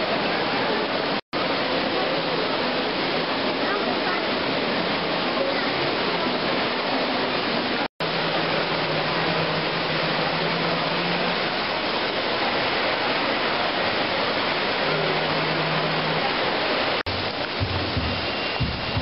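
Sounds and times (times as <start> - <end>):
fountain water jets hissing: 0.0 - 19.0.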